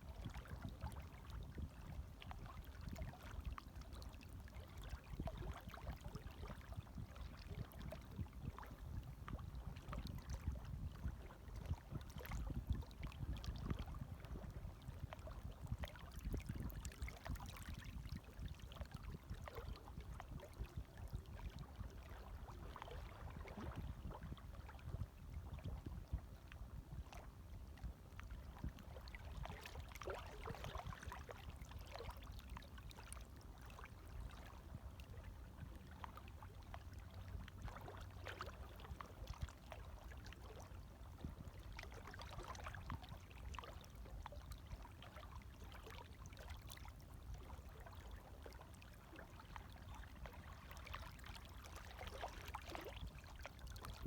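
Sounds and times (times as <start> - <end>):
gentle waves lapping: 0.3 - 54.0.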